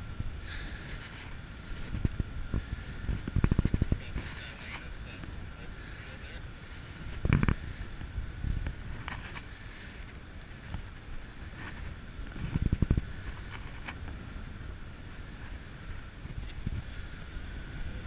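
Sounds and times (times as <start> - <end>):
heavy wind buffets on mic: 0.0 - 18.0
wind rushing over microphone: 0.0 - 18.0.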